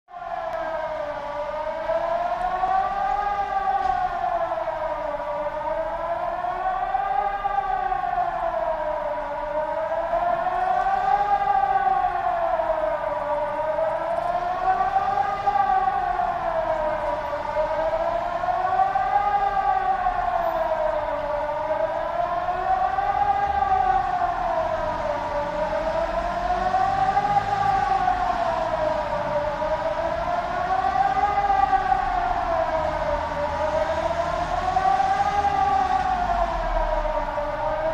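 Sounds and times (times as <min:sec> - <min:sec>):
siren wailing: 0:00.1 - 0:37.9.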